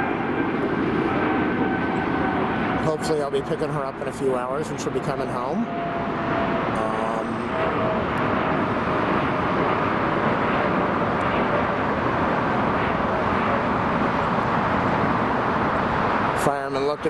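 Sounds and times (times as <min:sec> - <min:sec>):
jet airliner engines rushing: 0:00.0 - 0:17.0.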